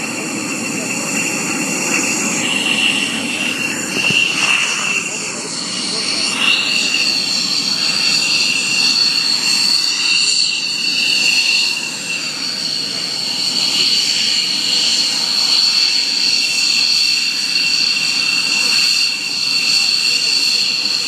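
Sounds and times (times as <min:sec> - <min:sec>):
jet engine whine and roar: 0:00.0 - 0:21.0.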